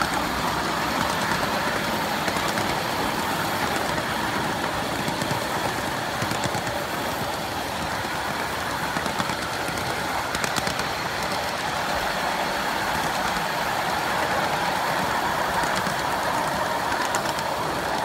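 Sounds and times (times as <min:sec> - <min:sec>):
wheels rumbling and rattling on rail: 0:00.0 - 0:18.0.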